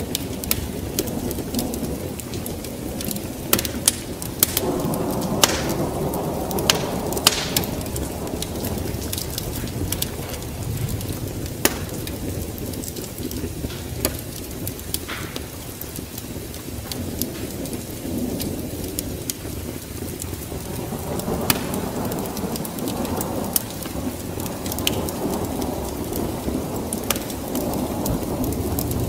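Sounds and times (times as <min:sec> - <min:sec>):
low thunder rumble: 0:00.0 - 0:29.0
steady rain: 0:00.0 - 0:29.0
wood fire crackling and popping: 0:00.0 - 0:29.0.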